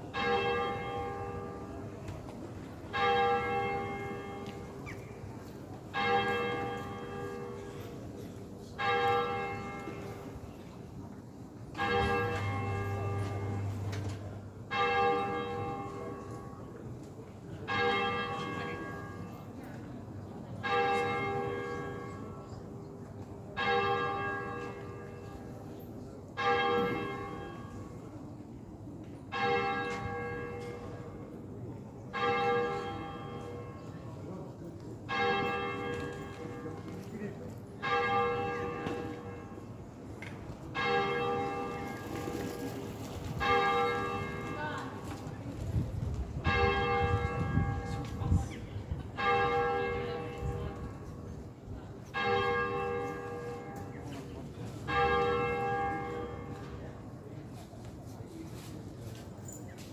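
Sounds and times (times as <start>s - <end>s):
church bells ringing: 0.0s - 5.0s, 5.9s - 10.4s, 11.7s - 16.8s, 17.5s - 19.6s, 20.6s - 25.5s, 26.3s - 28.2s, 29.3s - 31.4s, 32.1s - 39.8s, 40.6s - 45.2s, 46.4s - 57.1s.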